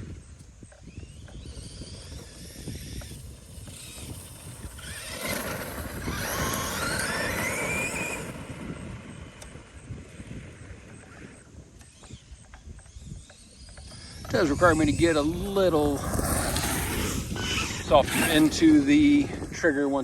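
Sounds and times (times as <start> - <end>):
electric motor whine: 0.0 - 20.0
tires on the ground: 0.0 - 20.0.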